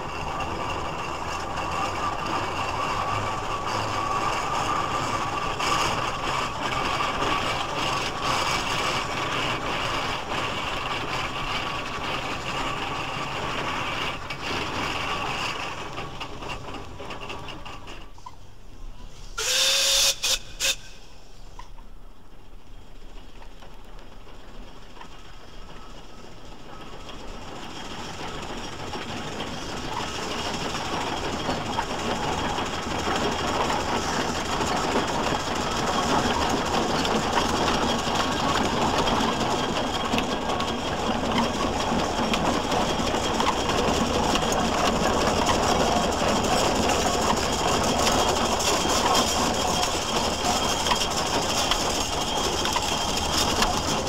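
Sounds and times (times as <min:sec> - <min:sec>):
steam tractor exhaust beats: 0:00.0 - 0:54.0
steam tractor mechanical clatter: 0:00.0 - 0:54.0.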